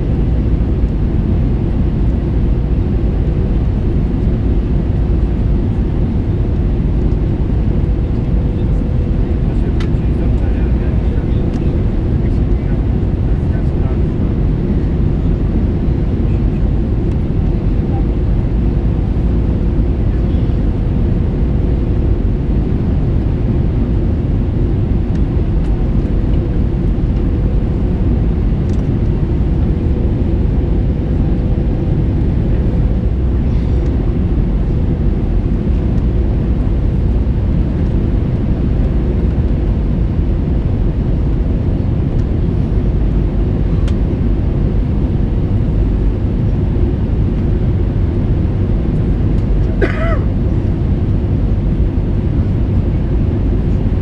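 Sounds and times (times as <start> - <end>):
airplane cabin rumble: 0.0 - 54.0
steady hum: 0.0 - 54.0.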